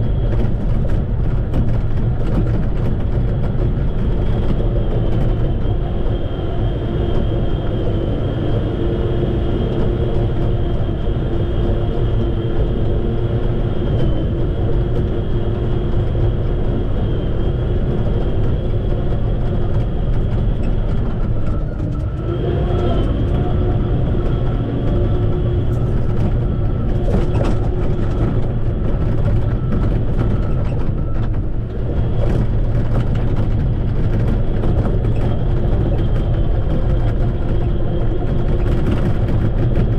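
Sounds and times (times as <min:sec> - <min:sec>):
bulldozer diesel engine running: 0:00.0 - 0:39.9
high steady whine: 0:00.0 - 0:39.9.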